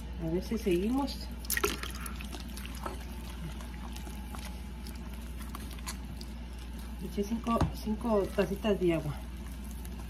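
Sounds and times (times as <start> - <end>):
hands squishing dough: 0.0 - 10.0.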